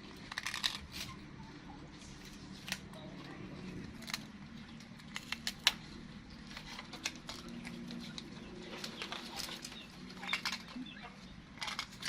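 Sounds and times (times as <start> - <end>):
crunching rice cakes: 0.0 - 1.4, 2.0 - 12.0
wrappers crinkling: 2.2 - 12.0.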